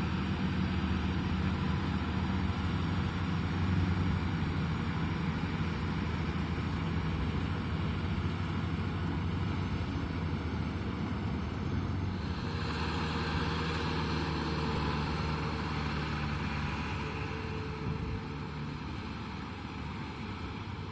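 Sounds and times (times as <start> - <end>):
tractor diesel engine humming: 0.0 - 20.9.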